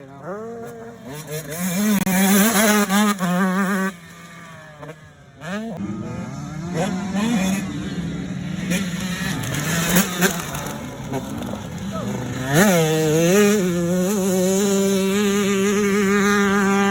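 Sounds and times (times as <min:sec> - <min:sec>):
motocross bike engine revving: 0:00.0 - 0:16.9.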